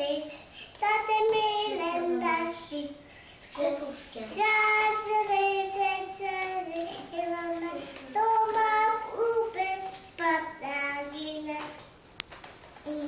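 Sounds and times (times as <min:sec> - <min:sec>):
girl singing: 0:00.0 - 0:11.9.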